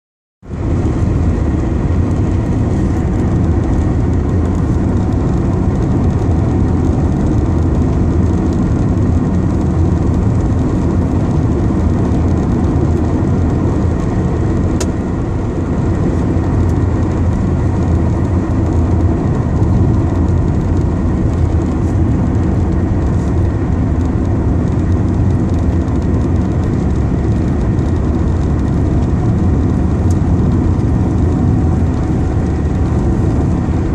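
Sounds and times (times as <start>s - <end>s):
car engine and tyre rumble: 0.4s - 33.9s.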